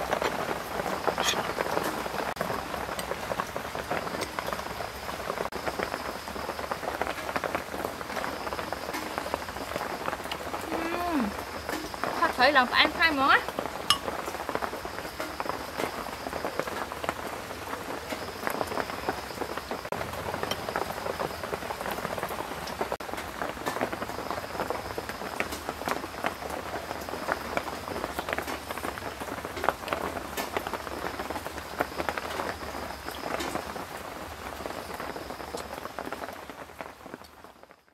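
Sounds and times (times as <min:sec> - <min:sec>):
rain drops ticking: 0:00.0 - 0:37.9.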